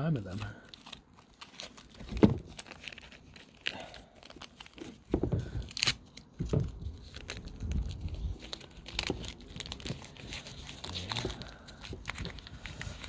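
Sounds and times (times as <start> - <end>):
crinkling: 0.0 - 13.0.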